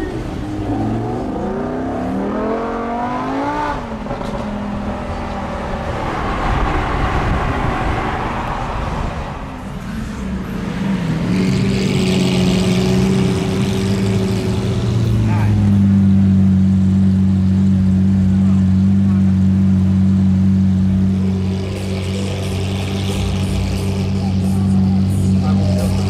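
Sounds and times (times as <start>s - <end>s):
car engine accelerating: 0.0s - 26.0s
road noise: 0.0s - 26.0s.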